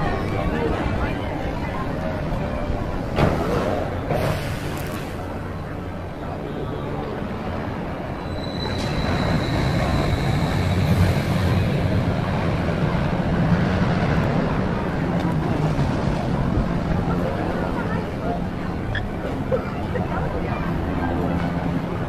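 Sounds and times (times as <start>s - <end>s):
roller coaster rumbling on track: 0.0s - 22.0s.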